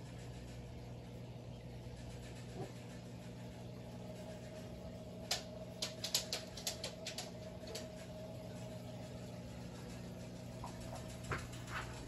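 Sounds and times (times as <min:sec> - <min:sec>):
aquarium equipment hum: 0:00.0 - 0:12.0.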